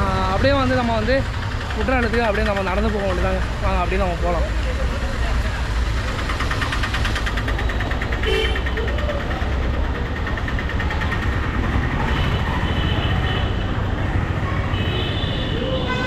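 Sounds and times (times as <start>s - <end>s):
bus engine rumbling: 0.0s - 16.0s
road traffic: 0.0s - 16.0s.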